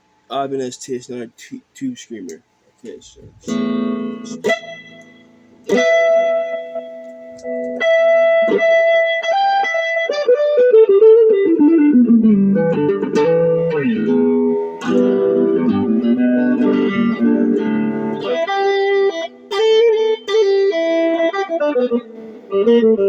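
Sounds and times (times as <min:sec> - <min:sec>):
overdriven electric guitar lead: 0:03.2 - 0:23.0.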